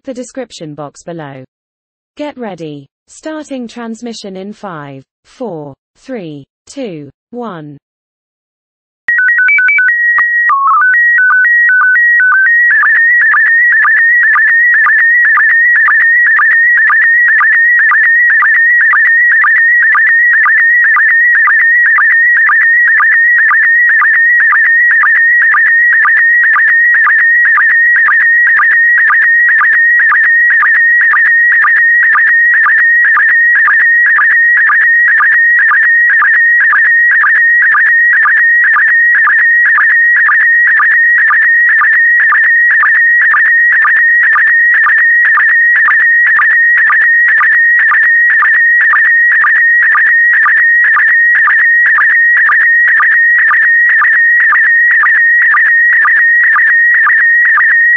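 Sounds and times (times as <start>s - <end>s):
warbling data signal tone: 9.1s - 57.9s.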